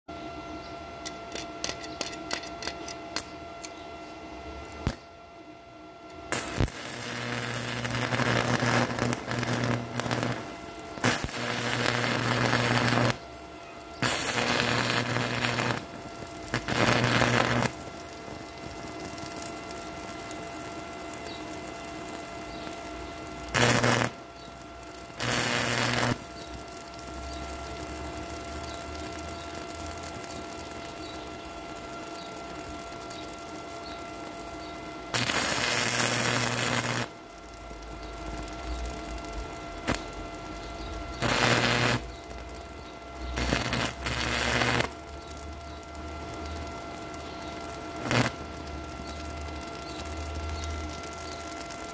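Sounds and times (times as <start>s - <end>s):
low electrical buzz: 0.1s - 51.9s
welding arc crackling and sizzling: 1.0s - 5.0s, 6.1s - 51.9s.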